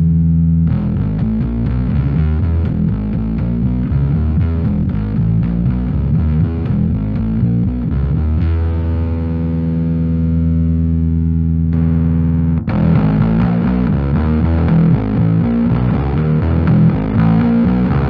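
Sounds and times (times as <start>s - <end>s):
fuzzed bass guitar notes: 0.0s - 18.0s.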